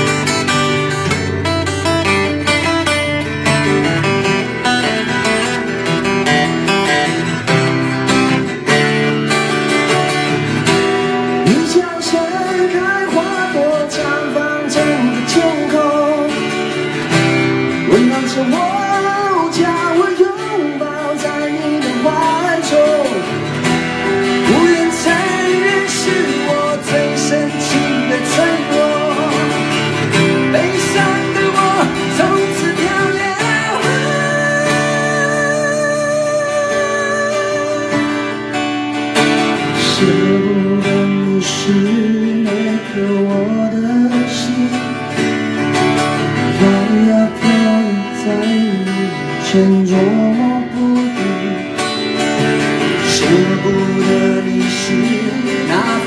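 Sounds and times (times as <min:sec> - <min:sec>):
acoustic guitars strumming: 0:00.0 - 0:56.0
man singing: 0:00.0 - 0:56.0.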